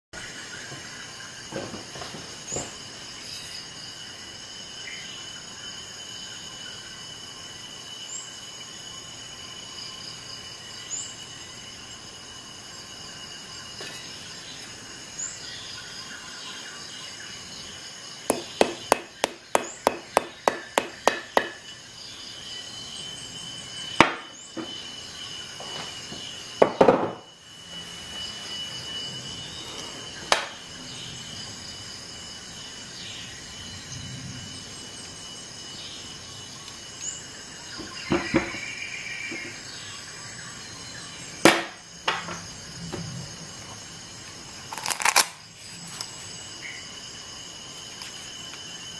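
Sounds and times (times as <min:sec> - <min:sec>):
high insect trill: 0:00.2 - 0:48.9.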